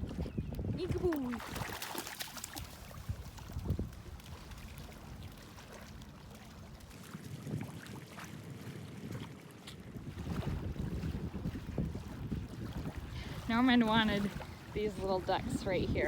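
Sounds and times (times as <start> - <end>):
faint water sounds: 0.0 - 16.0
wind rumble on microphone: 0.0 - 16.0.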